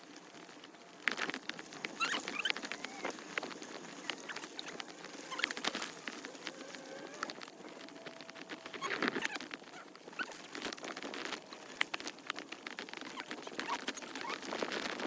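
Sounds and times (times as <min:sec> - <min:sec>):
bike rattling over rough trail: 0:00.0 - 0:15.0.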